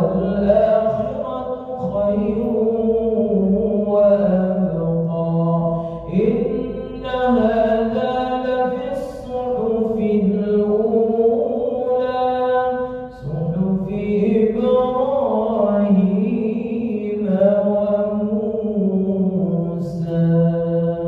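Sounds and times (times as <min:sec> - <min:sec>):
man chanting recitation: 0:00.0 - 0:21.0.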